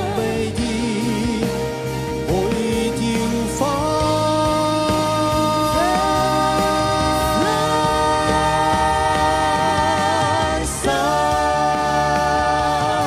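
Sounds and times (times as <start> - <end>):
pop ballad with vibrato singing: 0.0 - 13.0.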